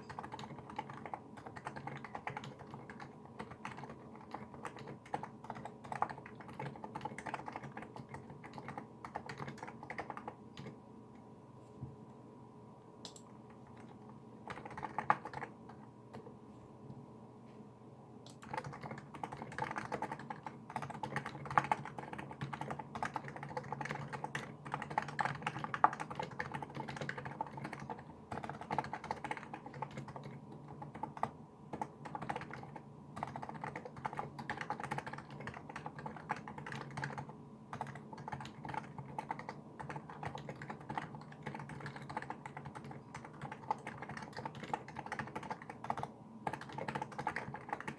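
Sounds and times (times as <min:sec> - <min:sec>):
keyboard typing: 0:00.0 - 0:10.8, 0:13.0 - 0:16.4, 0:18.2 - 0:47.9
faint steady hum: 0:00.0 - 0:47.9.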